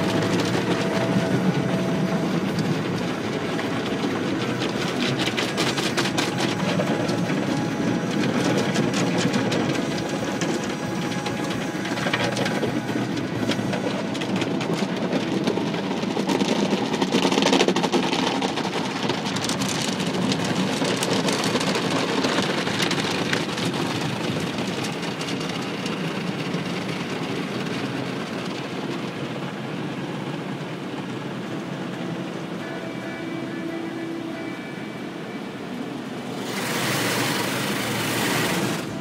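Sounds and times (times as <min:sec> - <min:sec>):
water jets spraying on car: 0:00.0 - 0:33.1, 0:36.2 - 0:39.0
car wash machinery running: 0:00.0 - 0:39.0.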